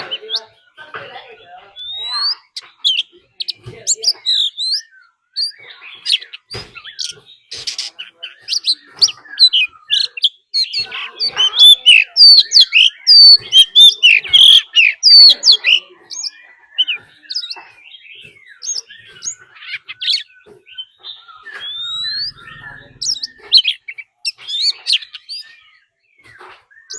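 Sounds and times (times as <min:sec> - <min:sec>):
bird whistles and chirps: 0:01.7 - 0:26.9.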